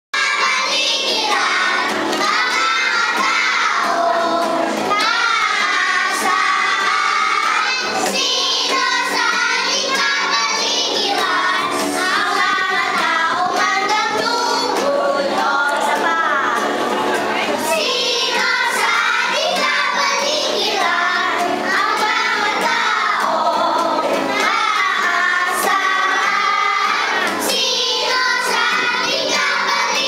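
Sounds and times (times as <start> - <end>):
children's choir singing: 0.2 - 30.0.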